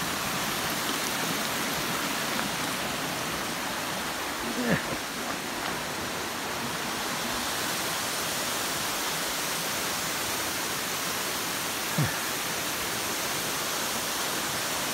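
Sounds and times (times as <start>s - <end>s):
waterfall pouring onto rocks: 0.0s - 14.9s.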